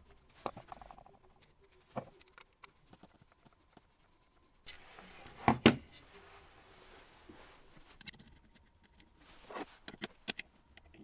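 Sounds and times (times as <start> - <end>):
soft handling noise: 0.0 - 11.0.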